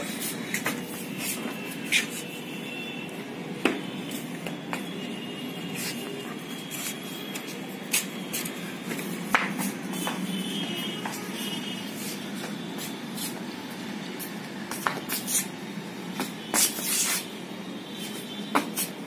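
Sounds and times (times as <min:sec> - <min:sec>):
flip-flop footsteps on concrete: 0:00.0 - 0:02.6, 0:03.6 - 0:13.5, 0:14.2 - 0:15.5, 0:16.1 - 0:17.3, 0:18.1 - 0:19.0.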